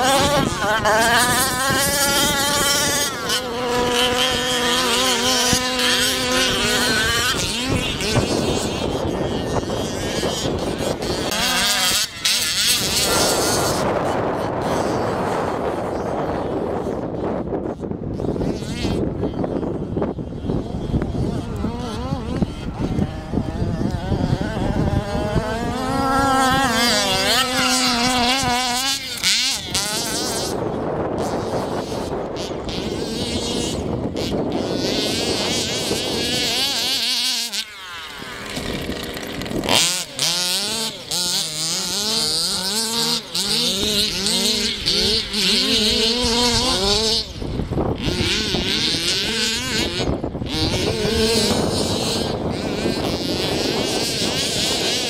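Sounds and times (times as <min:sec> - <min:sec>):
small two-stroke engines revving: 0:00.0 - 0:55.0.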